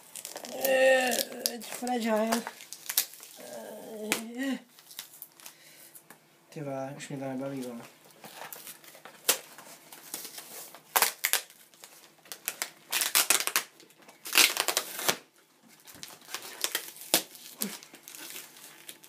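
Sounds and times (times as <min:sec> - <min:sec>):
tape ripping: 0:00.0 - 0:05.5, 0:08.3 - 0:19.0
plastic wrapping crinkling: 0:00.0 - 0:06.1, 0:07.4 - 0:19.0.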